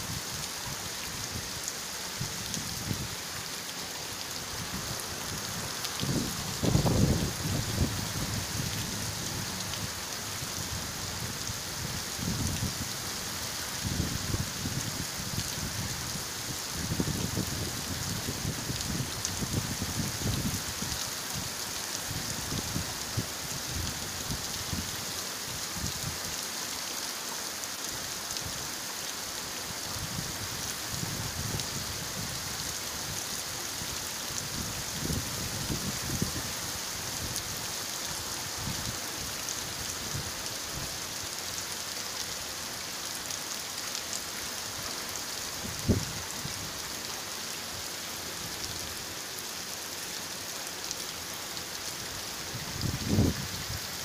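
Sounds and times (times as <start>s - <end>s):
heavy rain on a road: 0.0s - 54.0s.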